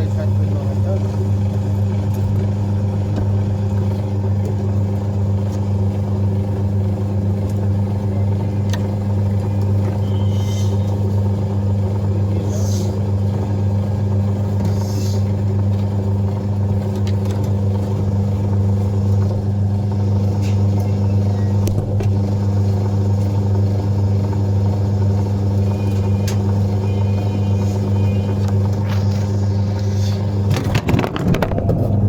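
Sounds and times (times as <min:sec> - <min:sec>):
washing machine spin hum: 0:00.0 - 0:32.0.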